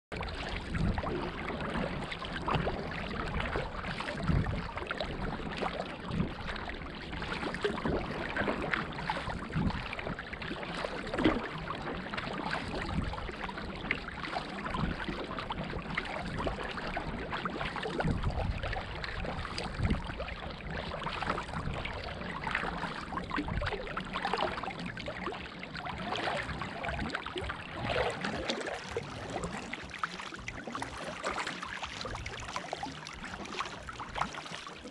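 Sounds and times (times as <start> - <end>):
water rushing along hull: 0.1 - 34.9
paddle splashing: 0.2 - 34.9.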